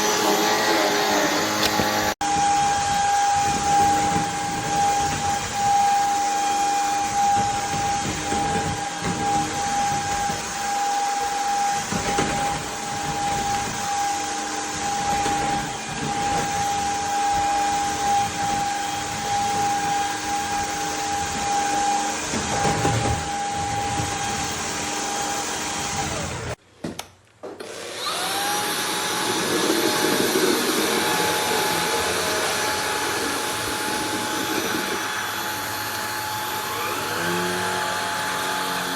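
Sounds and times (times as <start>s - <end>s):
stick vacuum motor whine: 0.0s - 26.6s, 27.6s - 38.9s.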